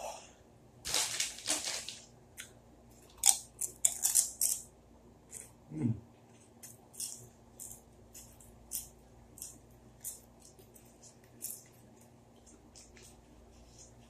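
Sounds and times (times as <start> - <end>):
person chewing crunchy chips: 0.9 - 4.7, 6.5 - 14.0.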